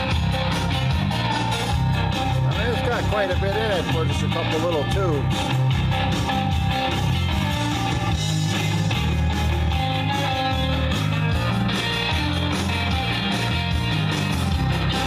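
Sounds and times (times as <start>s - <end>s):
song with guitar through amplifier: 0.0s - 15.0s.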